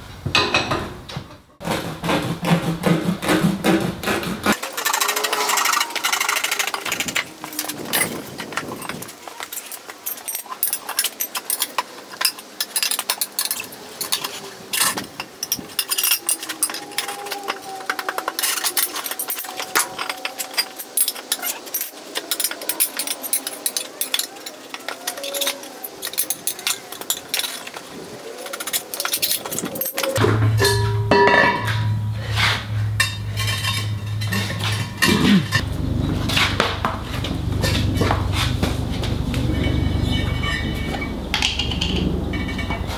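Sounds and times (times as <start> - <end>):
metal tools clinking on wheel rim: 4.6 - 42.9.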